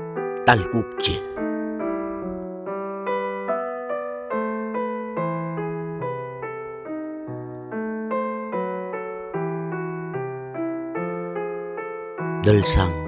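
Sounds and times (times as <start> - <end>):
slow piano broken chords: 0.0 - 13.0.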